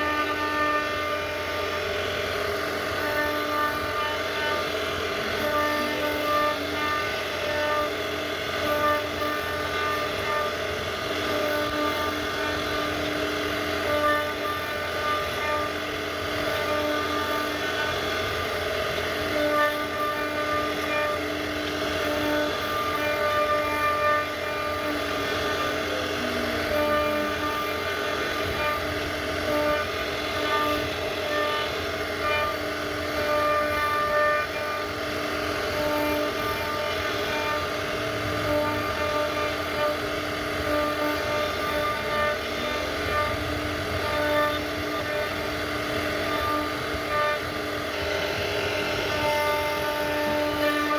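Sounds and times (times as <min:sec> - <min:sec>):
router carving wood: 0:00.0 - 0:50.9
whining machine tones: 0:00.0 - 0:50.9.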